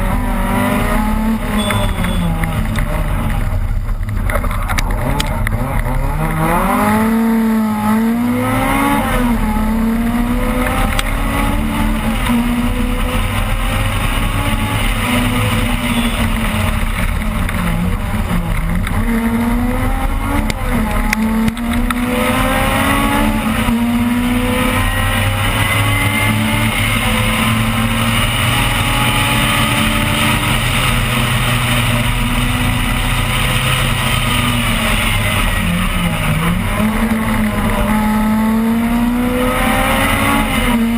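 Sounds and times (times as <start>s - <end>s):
rally car engine revving: 0.0s - 40.9s.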